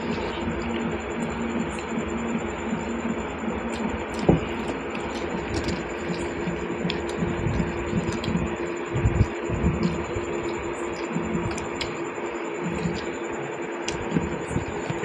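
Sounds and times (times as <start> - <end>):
eating noises and clicks: 0.0 - 15.0
mechanical hum with low drone: 0.0 - 15.0.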